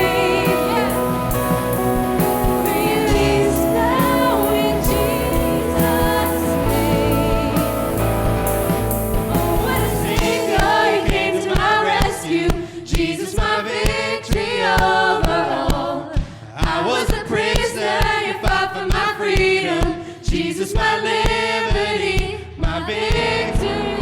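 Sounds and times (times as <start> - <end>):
worship band music: 0.0 - 18.8, 22.9 - 24.0
steady drum beat: 0.0 - 23.8
group of singers: 0.0 - 24.0.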